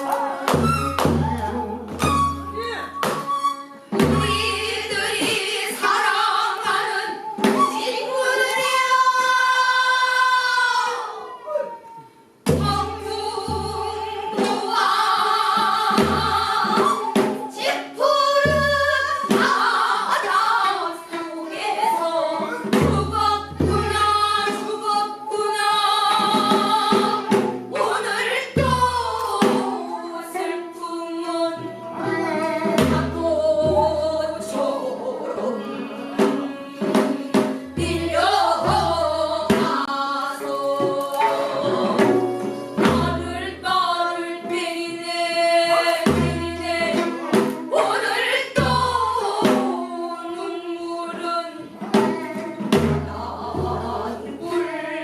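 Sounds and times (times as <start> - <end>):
group of voices singing: 0.0 - 2.3, 4.0 - 55.0
traditional instruments: 0.0 - 55.0.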